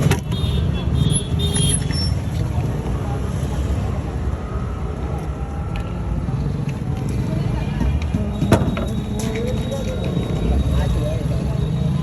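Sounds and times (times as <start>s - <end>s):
street background rumble: 0.0s - 12.0s
faint voices: 2.2s - 12.0s.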